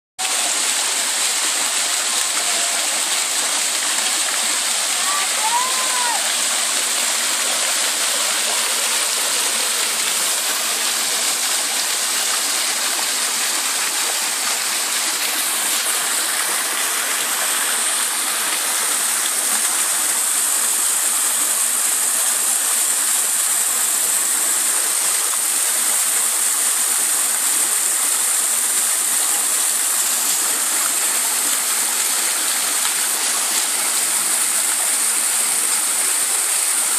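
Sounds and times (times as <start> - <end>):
fountain water splashing: 0.2 - 36.9.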